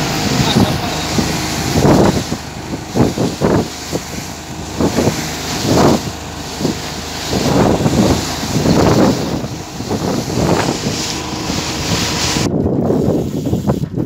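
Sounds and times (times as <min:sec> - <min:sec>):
water sloshing against hull: 0:00.0 - 0:12.8
wind buffeting microphone: 0:00.0 - 0:14.0.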